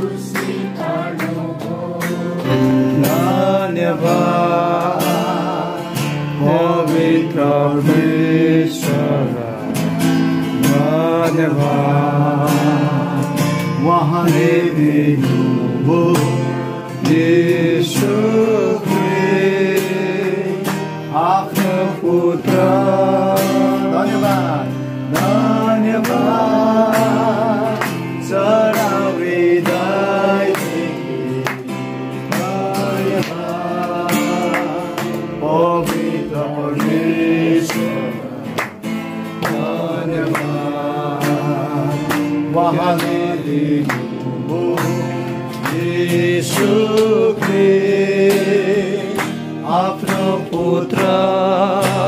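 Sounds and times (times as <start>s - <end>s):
man singing worship song: 0.0s - 52.0s
strummed acoustic guitar: 0.0s - 52.0s.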